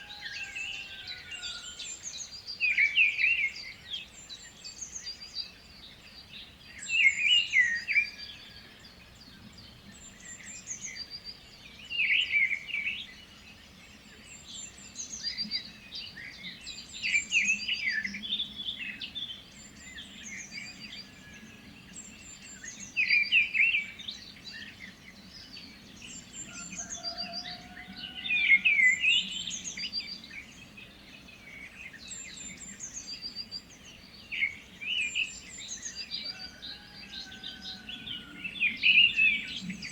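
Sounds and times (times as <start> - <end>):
songbird warbling song: 0.0 - 39.9.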